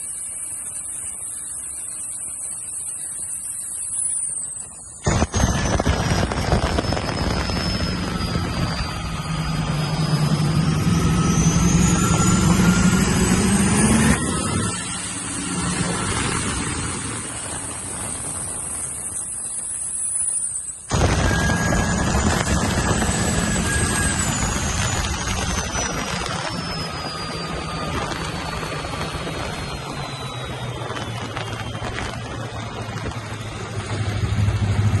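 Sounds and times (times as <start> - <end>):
boat engine running: 0.0 - 35.0
turbocharger whine: 0.0 - 35.0.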